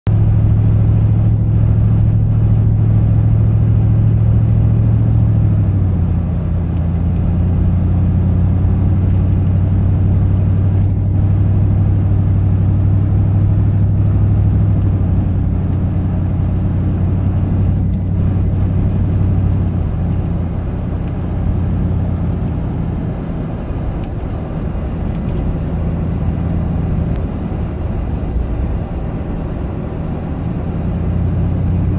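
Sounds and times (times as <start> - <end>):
car engine and tyre drone: 0.1 - 31.9.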